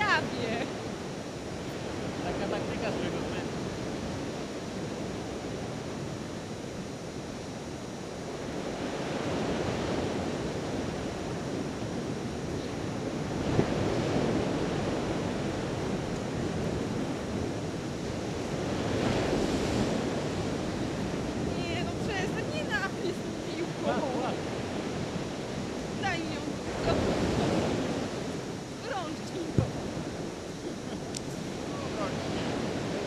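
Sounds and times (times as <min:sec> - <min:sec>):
surf breaking on a beach: 0:00.0 - 0:33.0
wind on the microphone: 0:00.0 - 0:33.0.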